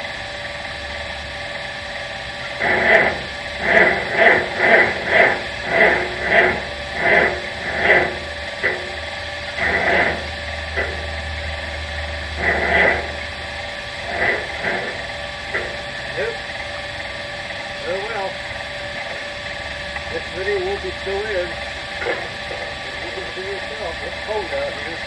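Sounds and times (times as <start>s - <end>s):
engine cranking without starting: 2.2s - 25.0s.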